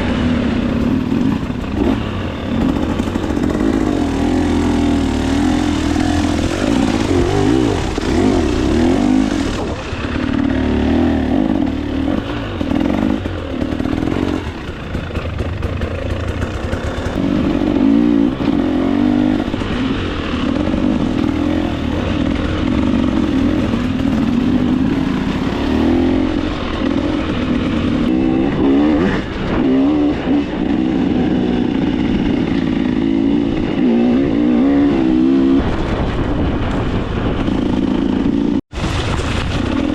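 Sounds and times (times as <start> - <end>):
dirt bike engine revving: 0.0 - 38.6.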